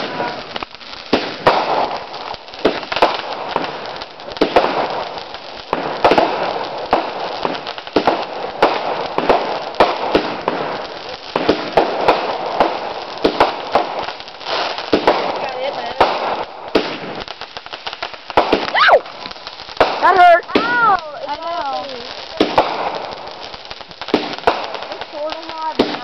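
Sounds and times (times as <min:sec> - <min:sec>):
fireworks crackling: 0:00.0 - 0:26.0
fireworks popping and banging: 0:00.0 - 0:26.0.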